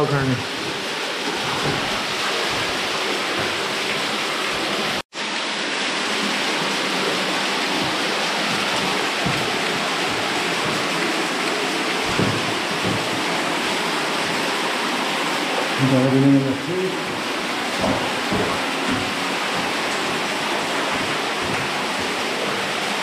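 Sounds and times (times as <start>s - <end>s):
water falling and splashing: 0.0s - 23.0s.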